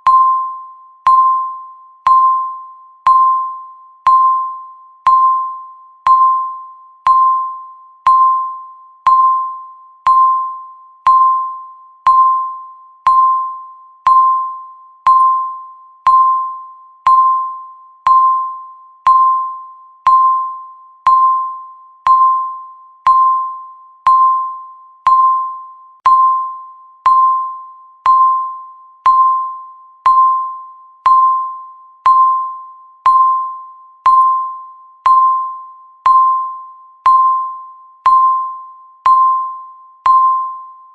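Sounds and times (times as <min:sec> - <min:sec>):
timer ding: 0:00.0 - 0:40.9.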